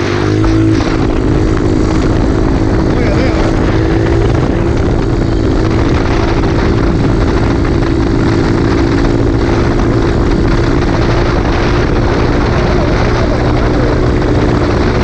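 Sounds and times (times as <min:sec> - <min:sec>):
motorbike engine running: 0:00.0 - 0:15.0
wind buffeting on microphone: 0:00.0 - 0:15.0.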